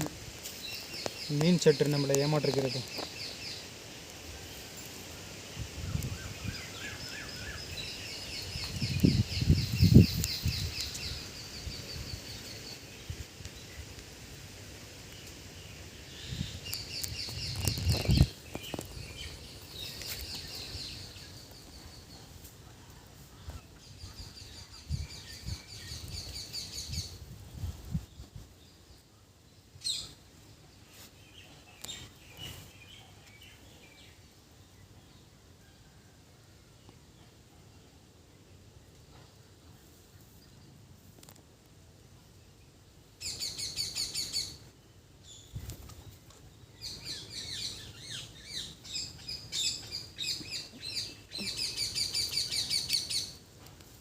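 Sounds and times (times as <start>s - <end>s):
small birds chirping: 0.0s - 35.5s, 42.2s - 54.0s.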